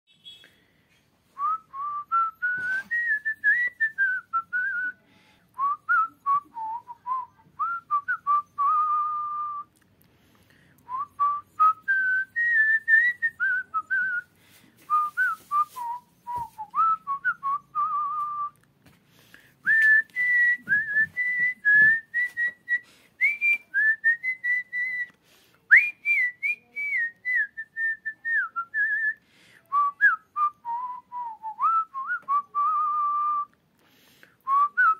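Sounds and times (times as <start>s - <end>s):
man whistling a tune: 1.4s - 9.7s, 10.9s - 18.6s, 19.6s - 33.6s, 34.4s - 34.9s.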